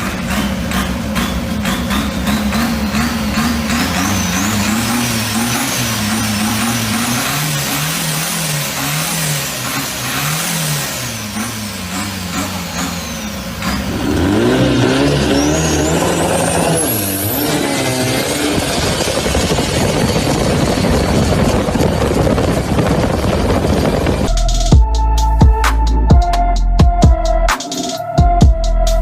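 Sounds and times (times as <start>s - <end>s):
speedboat engine running: 0.0s - 24.8s
high whine: 0.0s - 29.0s.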